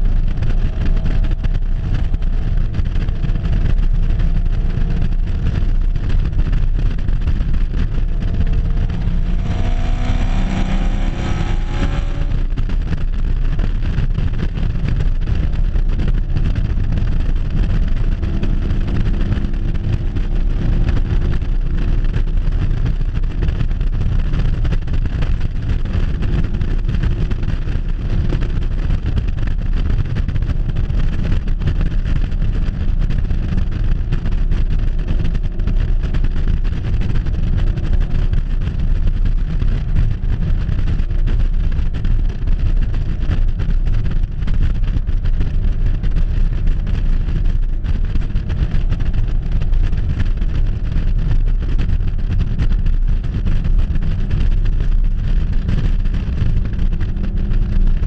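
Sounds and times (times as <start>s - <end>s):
car engine: 0.0s - 58.0s
road noise: 0.0s - 58.0s
wind buffeting microphone: 0.0s - 58.0s.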